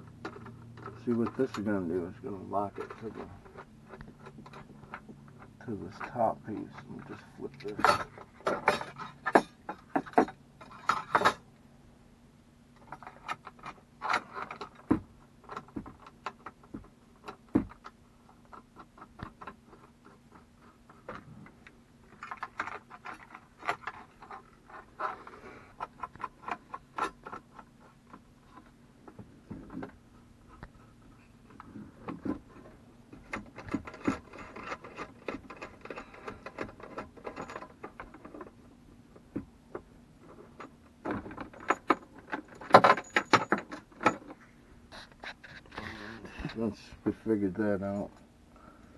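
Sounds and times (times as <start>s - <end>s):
faint low hum: 0.0s - 48.9s
clicks and rattles of handled radio: 0.1s - 11.4s, 12.8s - 30.0s, 31.5s - 38.6s, 39.2s - 44.4s.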